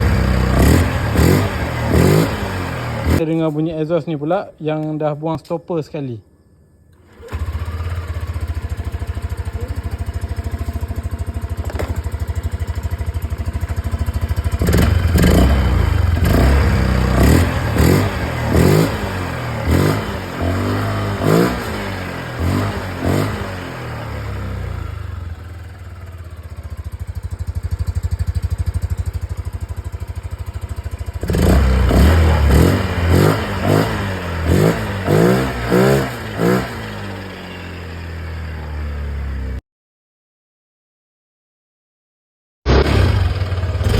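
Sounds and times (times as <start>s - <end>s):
scooter engine idling and revving: 0.0s - 3.4s, 7.0s - 39.6s, 42.7s - 43.9s.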